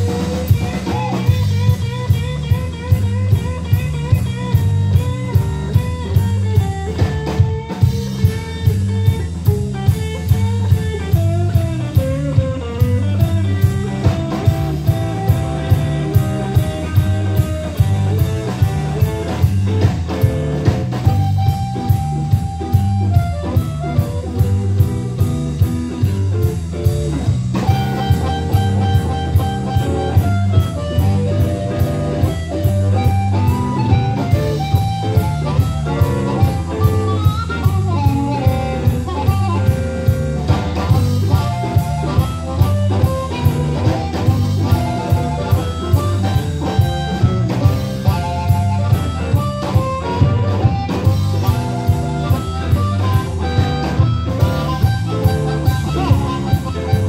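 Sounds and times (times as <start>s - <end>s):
drum kit beat: 0.0s - 57.0s
guitar lines: 0.0s - 57.0s
live blues band playing: 0.0s - 57.0s
low bass line: 0.0s - 57.0s.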